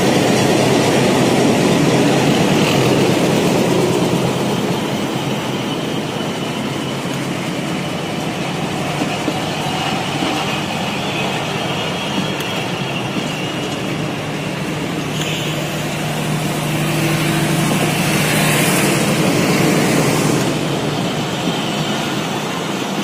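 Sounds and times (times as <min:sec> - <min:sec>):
train coaches rumbling past: 0:00.0 - 0:23.0.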